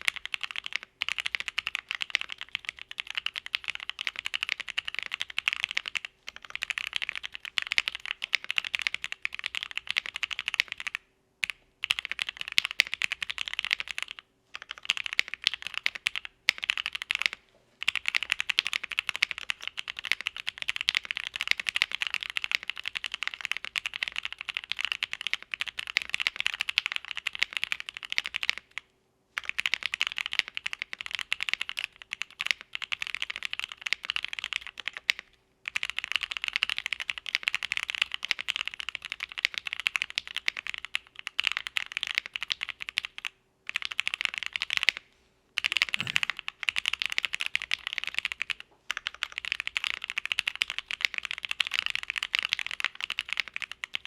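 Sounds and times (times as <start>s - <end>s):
typing on mechanical keyboard: 0.0s - 28.8s, 29.4s - 45.0s, 45.6s - 54.0s.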